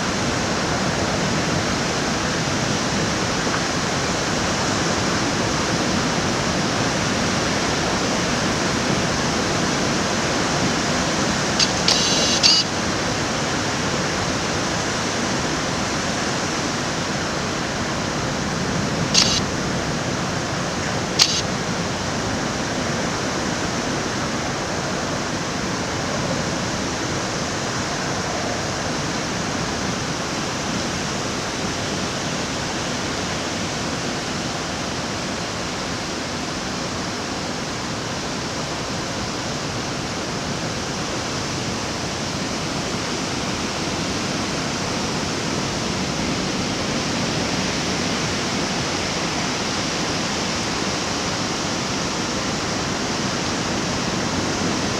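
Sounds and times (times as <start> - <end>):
heavy rain and wind: 0.0 - 11.9, 12.6 - 54.9.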